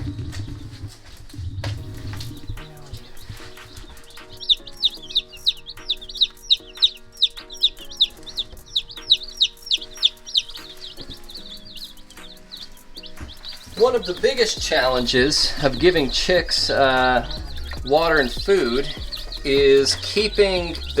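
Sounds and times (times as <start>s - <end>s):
baby chicks peeping: 0.0s - 1.2s, 1.8s - 21.0s
piano music: 0.0s - 21.0s.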